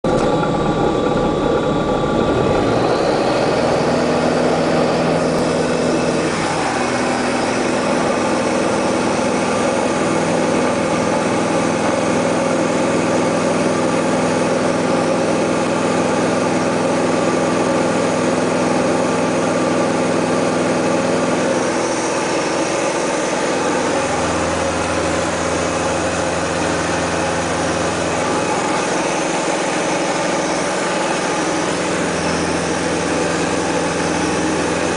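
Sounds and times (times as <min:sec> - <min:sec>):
propeller plane engine drone: 0:00.0 - 0:34.9.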